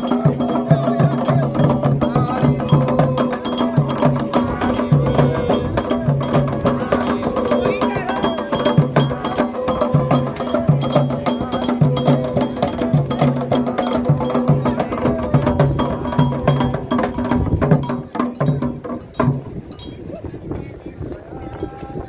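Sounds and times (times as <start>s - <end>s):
voices singing: 0.0s - 19.2s, 19.8s - 22.0s
metal bell: 0.0s - 20.1s
hand drums playing: 0.0s - 20.2s.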